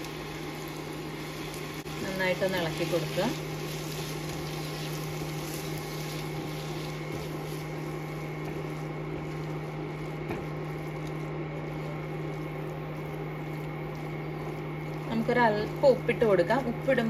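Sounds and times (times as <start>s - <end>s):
induction cooker humming: 0.0s - 17.0s
onions sizzling in oil: 0.0s - 17.0s
spatula stirring in a pan: 0.0s - 17.0s.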